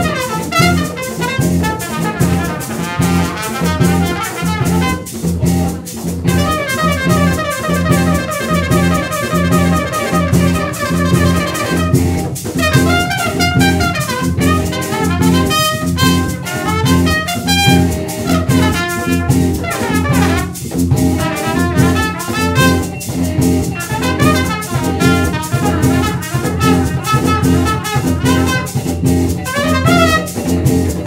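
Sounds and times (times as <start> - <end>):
trumpet melody: 0.0 - 5.3, 6.2 - 31.0
drum kit: 0.0 - 31.0
electric bass guitar: 0.0 - 31.0.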